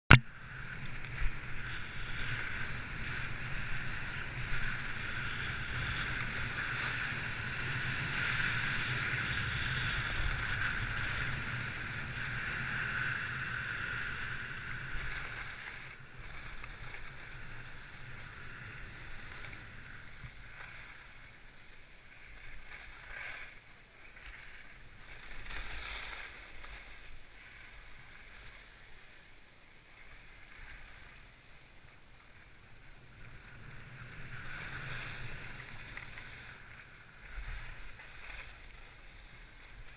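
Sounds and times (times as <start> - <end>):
wind rumbling on microphone: 0.1 - 39.9.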